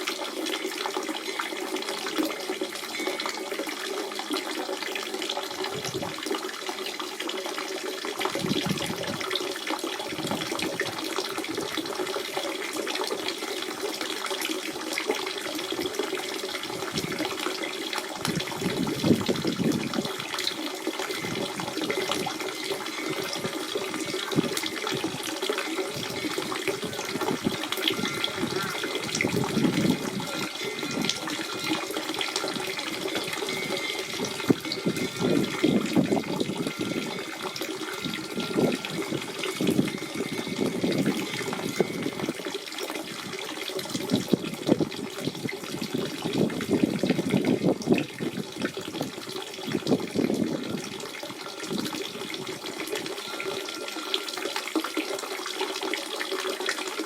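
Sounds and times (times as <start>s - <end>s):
spring water running and splashing: 0.0s - 57.0s.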